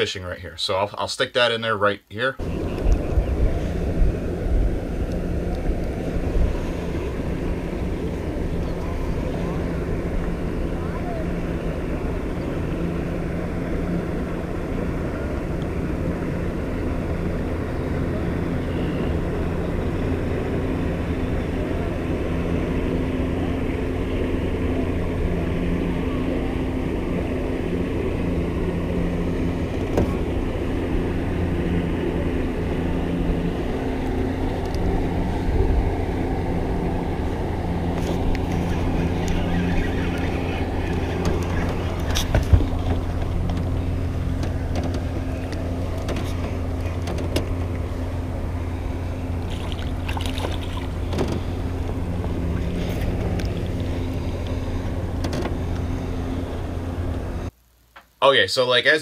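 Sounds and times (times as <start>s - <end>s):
boat motor running: 2.4s - 57.5s.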